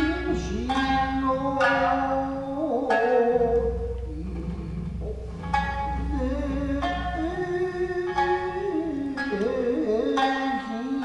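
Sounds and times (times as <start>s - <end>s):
person singing wavering chant: 0.0s - 11.0s
shamisen plucking single notes: 0.0s - 11.0s.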